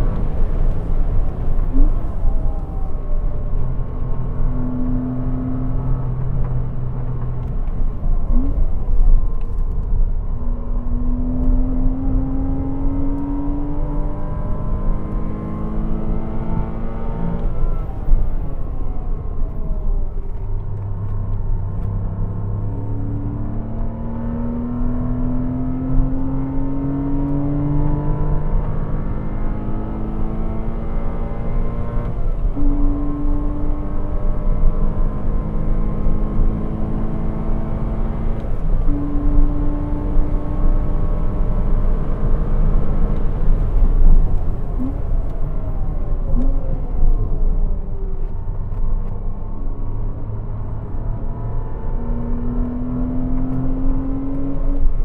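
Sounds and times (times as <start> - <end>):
engine accelerating hard: 10.4 - 55.0.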